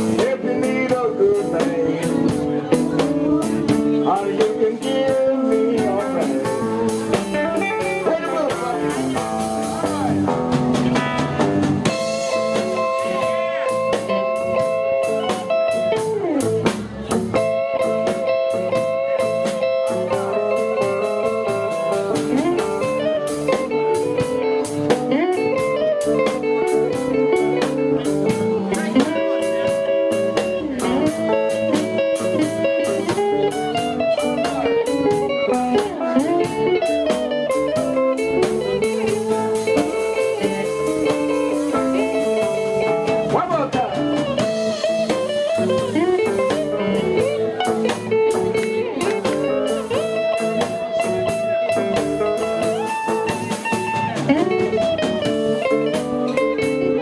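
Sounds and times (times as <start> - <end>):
bending lead guitar line: 0.0 - 57.0
electric blues band playing: 0.0 - 57.0.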